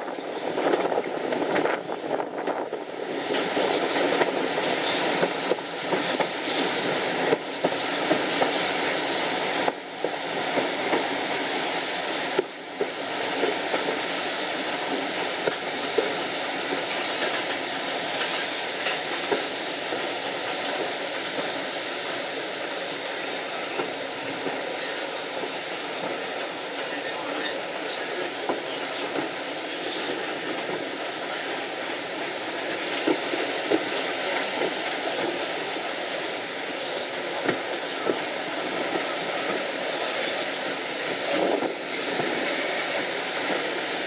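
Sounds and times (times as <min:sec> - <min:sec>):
train wheel and wind noise: 0:00.0 - 0:44.0.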